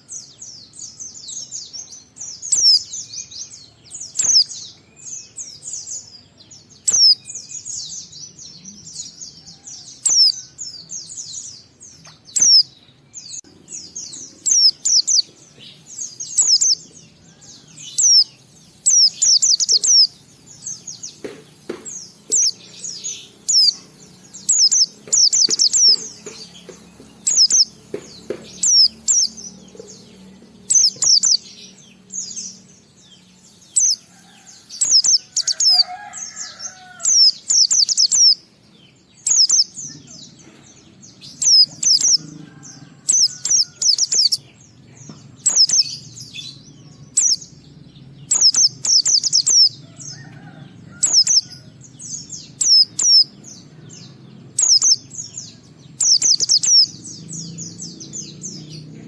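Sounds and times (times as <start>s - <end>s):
bird twittering chirps: 0.0s - 59.0s.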